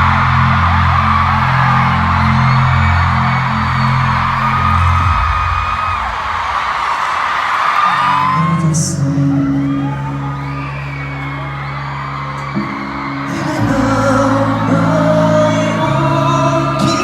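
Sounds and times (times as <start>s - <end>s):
held keyboard chords: 0.0s - 5.7s, 8.4s - 17.0s
crowd screaming and whooping: 0.0s - 17.0s.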